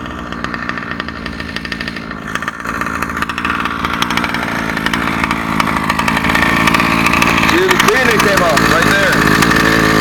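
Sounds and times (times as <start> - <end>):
small two-stroke engine idling: 0.0 - 10.0.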